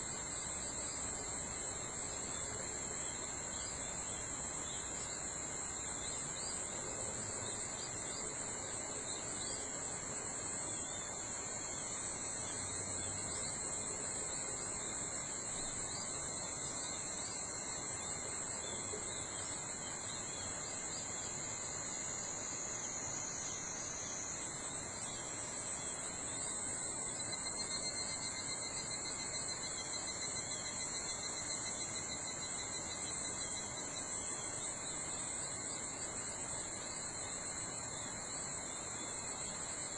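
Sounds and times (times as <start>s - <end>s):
insects chorus: 0.0s - 39.9s
pulsing insect call: 0.0s - 39.9s.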